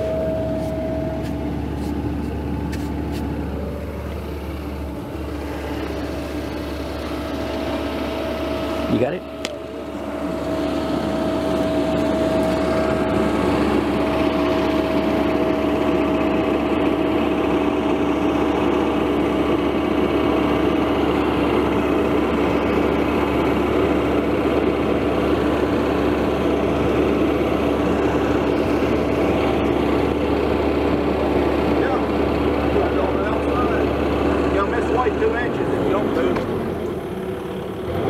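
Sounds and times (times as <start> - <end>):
steady hum: 0.0 - 36.0
excavator engine running: 0.0 - 38.0.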